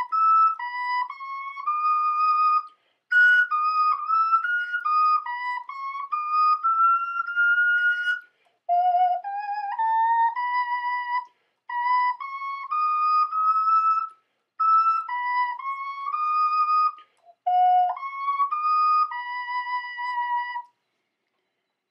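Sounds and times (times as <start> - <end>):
ocarina playing a slow hymn: 0.0 - 20.7.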